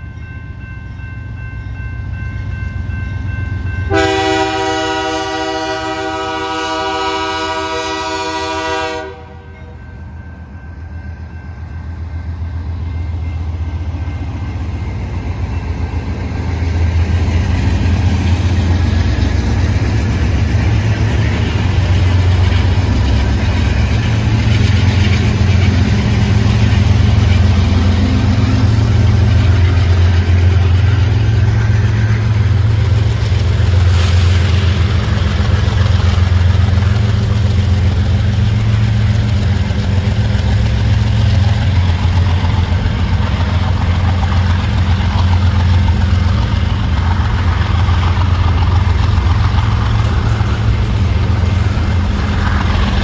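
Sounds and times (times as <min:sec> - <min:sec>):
diesel locomotive engine drone: 0:00.0 - 0:53.0
train rolling on rails: 0:00.0 - 0:53.0.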